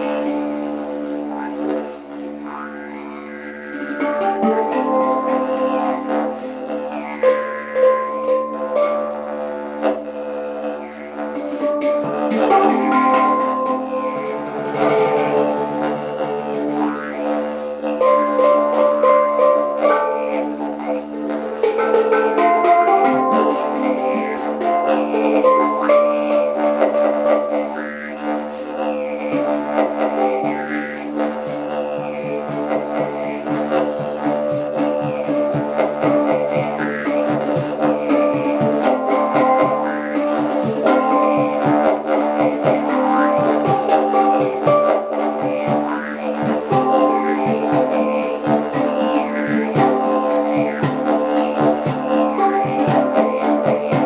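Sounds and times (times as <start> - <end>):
didgeridoo drone: 0.0 - 54.0
hang drum ringing notes: 2.5 - 9.9, 10.8 - 28.1, 28.9 - 54.0.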